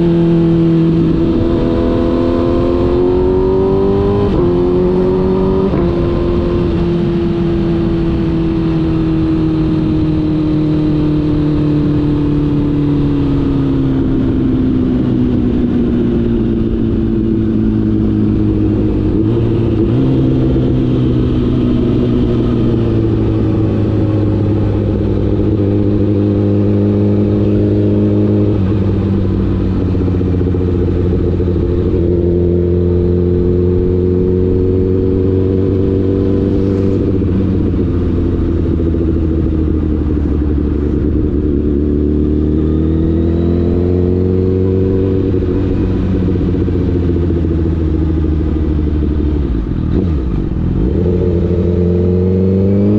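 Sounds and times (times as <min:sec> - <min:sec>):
motorcycle engine running: 0:00.0 - 0:52.9
wind and road noise: 0:00.0 - 0:52.9.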